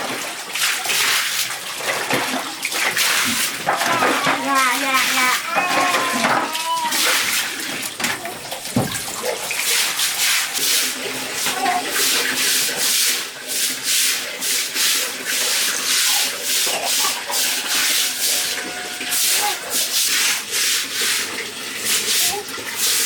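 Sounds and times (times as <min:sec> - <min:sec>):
rhythmic hand scrubbing: 0:00.6 - 0:23.0.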